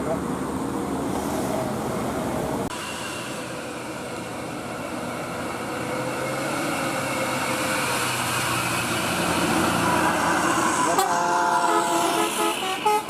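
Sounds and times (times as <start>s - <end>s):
bus engine running: 0.0s - 13.0s
road noise: 0.0s - 13.0s.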